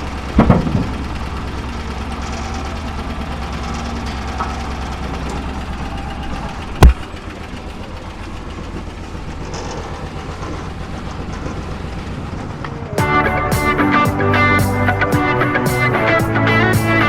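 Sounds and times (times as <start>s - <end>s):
farm machine engine humming: 0.0s - 17.0s.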